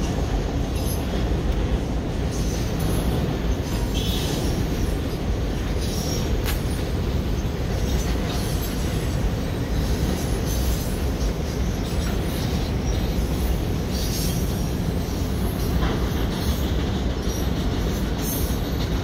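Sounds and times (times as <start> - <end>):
train wheel squeals: 0.0 - 19.0
train wheels rumbling on bridge: 0.0 - 19.0.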